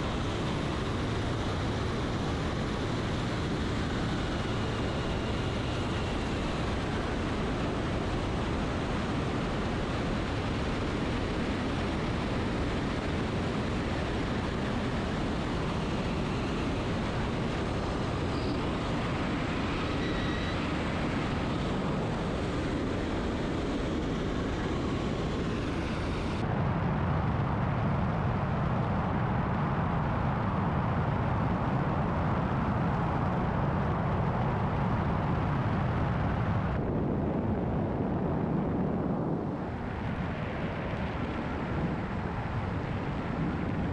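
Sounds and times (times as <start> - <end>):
aircraft engine and propeller: 0.0 - 43.9
wind rushing over camera: 0.0 - 43.9.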